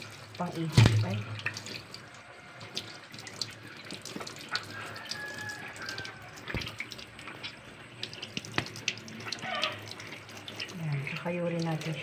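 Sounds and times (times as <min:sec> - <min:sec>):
faucet water splashing into sink: 0:00.0 - 0:12.0.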